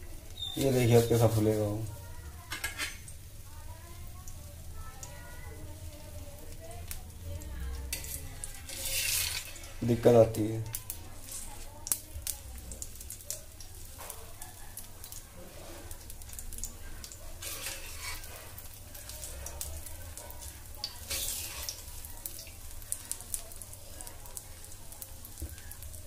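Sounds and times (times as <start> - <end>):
omelette sizzling in oil: 0.0 - 26.0.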